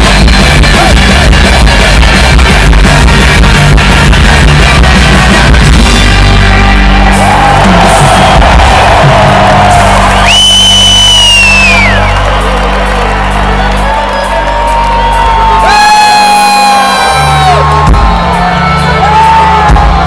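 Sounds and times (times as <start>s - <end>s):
steady drum beat: 0.0s - 13.8s, 14.7s - 20.0s
live rock band playing: 0.0s - 20.0s.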